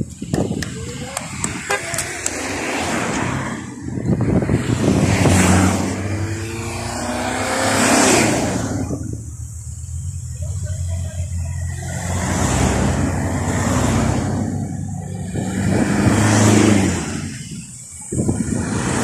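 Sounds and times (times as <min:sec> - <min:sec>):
cars driving past: 0:00.2 - 0:19.0.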